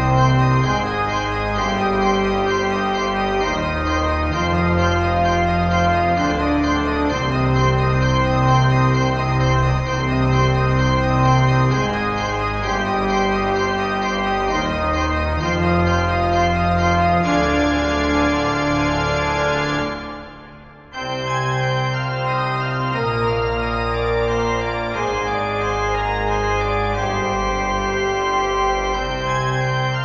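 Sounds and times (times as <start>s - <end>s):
slow organ chords: 0.0s - 30.0s.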